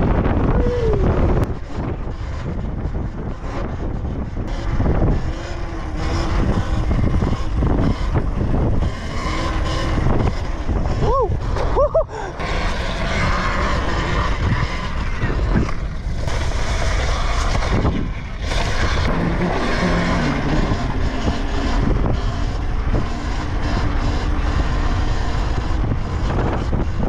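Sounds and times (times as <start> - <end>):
electric motor whine: 0.0 - 27.0
wind buffeting microphone: 0.0 - 27.0.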